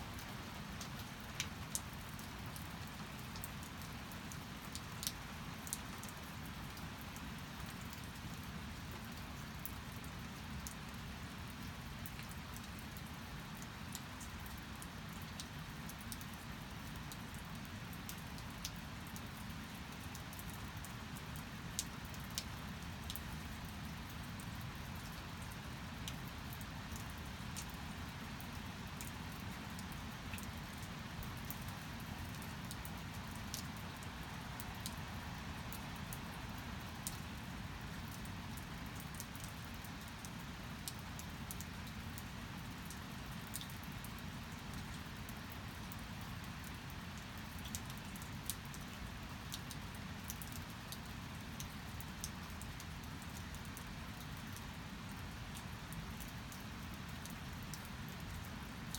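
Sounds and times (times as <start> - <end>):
steady rainfall: 0.0 - 58.9
raindrops tapping a surface: 0.1 - 58.9.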